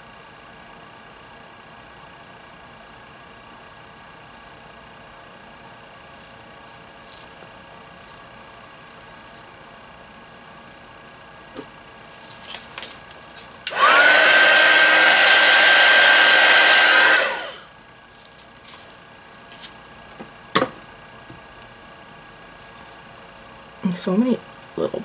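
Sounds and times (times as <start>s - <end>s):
heat gun fan whine: 0.0s - 25.0s.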